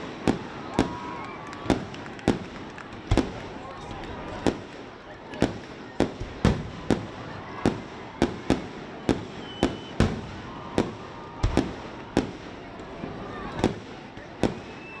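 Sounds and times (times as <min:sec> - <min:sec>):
faint crowd voices: 0:00.0 - 0:15.0
fireworks bangs: 0:00.0 - 0:15.0.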